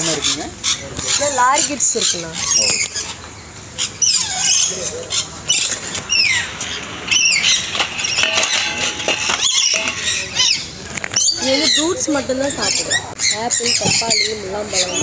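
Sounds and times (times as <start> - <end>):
parrots squawking: 0.0 - 15.0.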